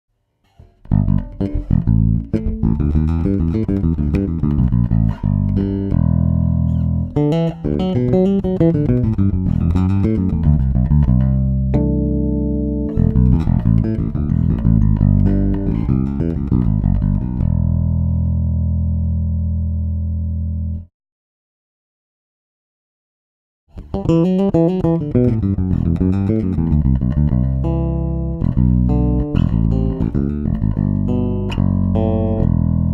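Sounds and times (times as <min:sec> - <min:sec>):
electric bass guitar playing: 0:00.6 - 0:20.9, 0:23.7 - 0:32.9.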